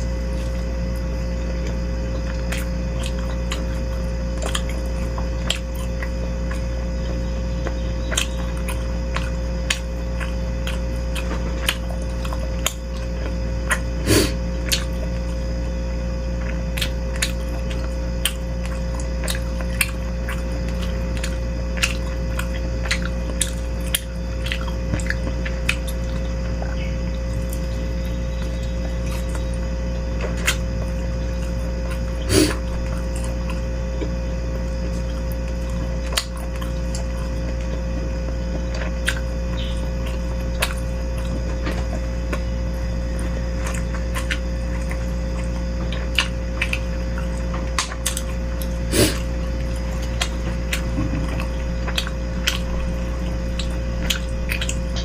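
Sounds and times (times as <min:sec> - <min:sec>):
chewing: 0:00.0 - 0:55.0
steady hum: 0:00.0 - 0:55.0.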